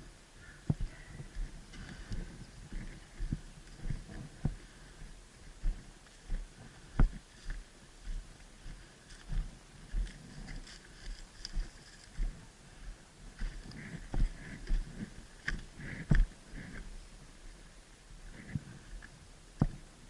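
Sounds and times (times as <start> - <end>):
footsteps walking: 0.7 - 16.9.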